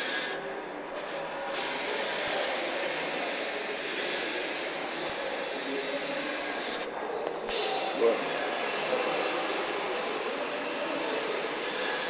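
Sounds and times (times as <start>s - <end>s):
motor whirring hiss: 1.0s - 6.9s, 7.5s - 12.0s.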